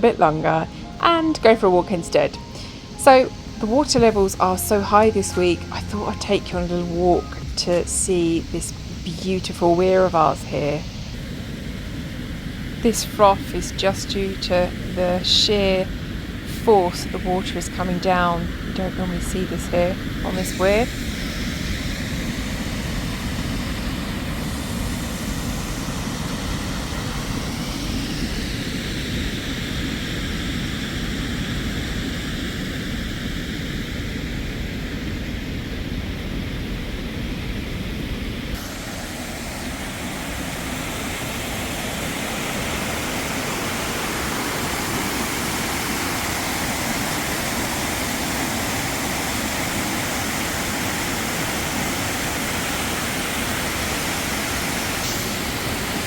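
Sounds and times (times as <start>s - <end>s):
water rushing over weir: 0.0s - 30.1s, 38.5s - 56.0s.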